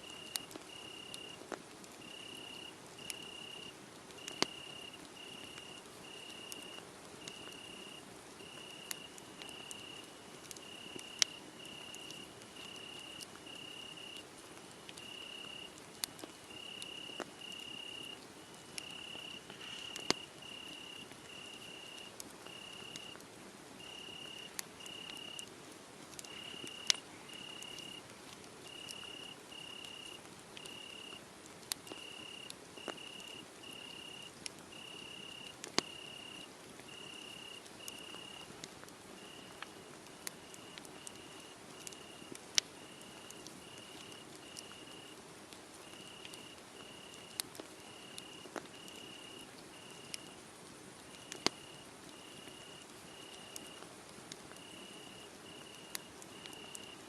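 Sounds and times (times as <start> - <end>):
crickets chirping: 0.0 - 1.4, 2.0 - 14.2, 15.0 - 15.8, 16.5 - 23.2, 23.8 - 25.4, 26.3 - 28.0, 28.7 - 31.2, 31.9 - 38.4, 39.2 - 39.8, 40.4 - 45.2, 45.9 - 50.4, 51.1 - 53.8, 54.6 - 57.0
wood fire crackling: 0.1 - 57.0.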